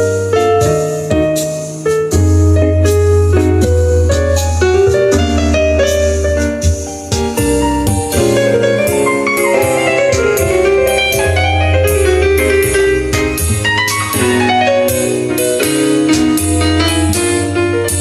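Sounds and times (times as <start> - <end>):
deep bass line: 0.0 - 18.0
piano instrumental music: 0.0 - 18.0.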